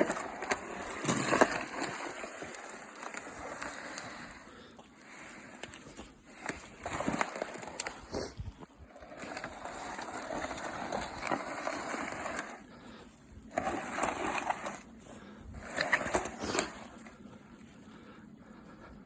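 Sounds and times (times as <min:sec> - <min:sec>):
crunching and rustling: 0:00.0 - 0:18.0.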